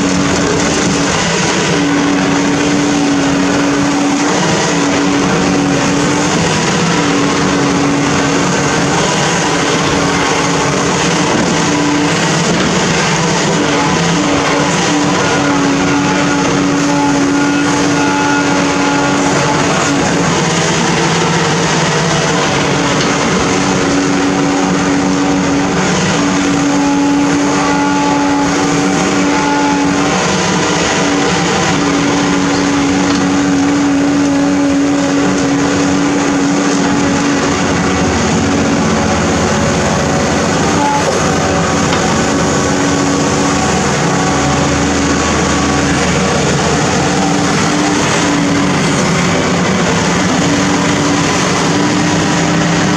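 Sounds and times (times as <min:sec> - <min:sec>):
diesel engine running under load: 0:00.0 - 0:52.9
hydraulic arm digging: 0:00.0 - 0:52.9
steady hum: 0:00.0 - 0:52.9.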